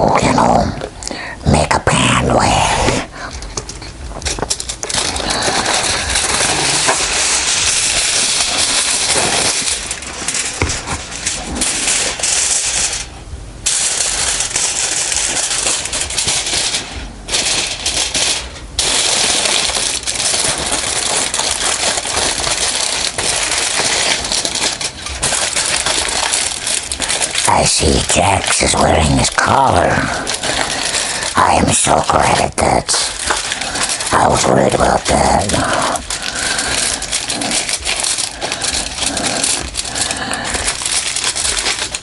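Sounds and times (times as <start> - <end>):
aluminium foil crinkling: 0.0 - 42.0.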